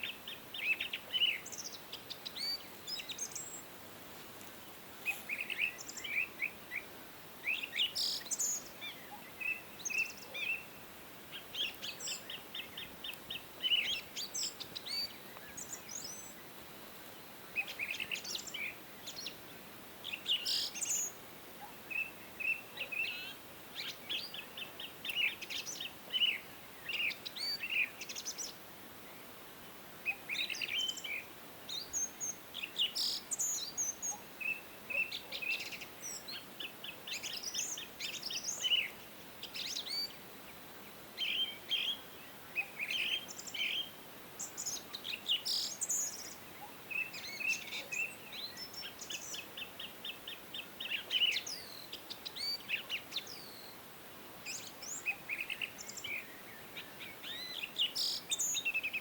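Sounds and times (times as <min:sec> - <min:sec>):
songbirds singing and trilling: 0:00.0 - 0:03.8, 0:04.4 - 0:59.0
faint steady hiss: 0:00.0 - 0:59.0.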